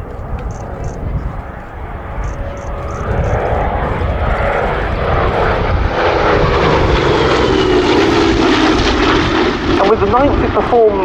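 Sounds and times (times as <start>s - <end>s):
aircraft piston engines flypast: 0.0s - 11.0s.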